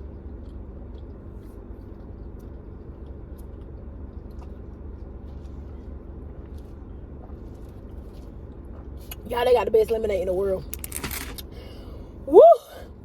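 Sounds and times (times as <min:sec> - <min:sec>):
idling car rumble: 0:00.0 - 0:13.0.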